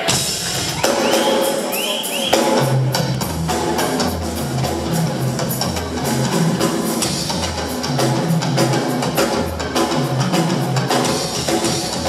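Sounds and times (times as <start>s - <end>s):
drum kit solo: 0.0s - 12.0s.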